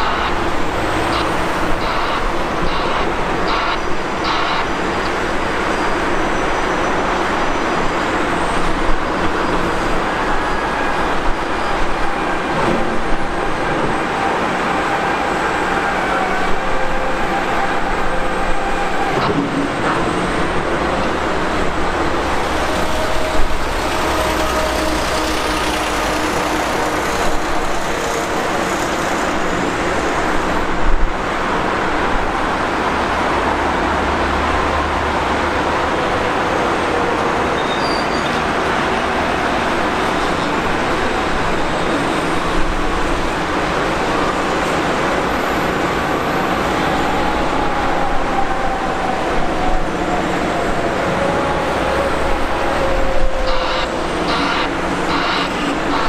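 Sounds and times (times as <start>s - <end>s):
motorway traffic passing: 0.0s - 37.6s, 38.4s - 56.0s.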